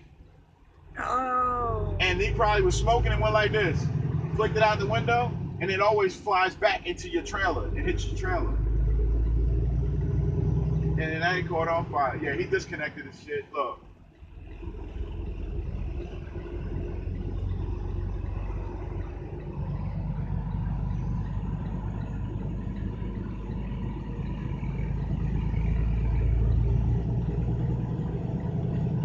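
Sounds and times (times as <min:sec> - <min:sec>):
motor vehicle road rumble: 0:00.0 - 0:29.0.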